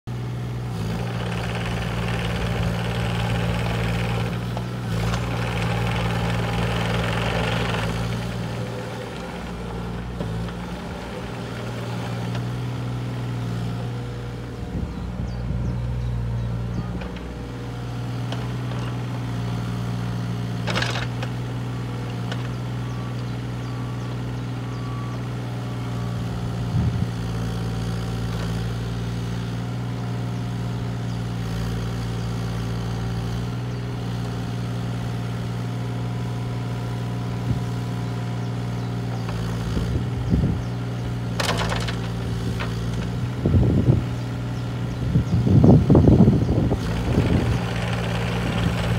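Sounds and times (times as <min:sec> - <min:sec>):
excavator diesel engine running: 0:00.1 - 0:48.9.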